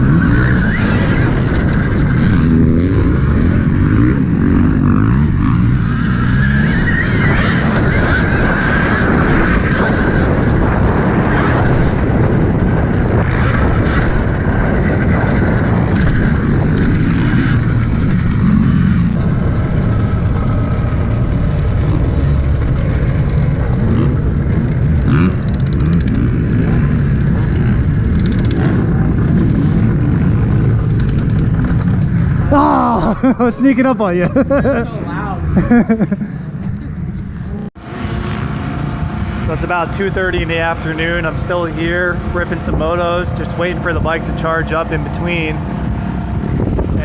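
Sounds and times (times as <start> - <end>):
dirt bike riding noise: 0.0 - 47.0
wind rushing over microphone: 0.0 - 47.0.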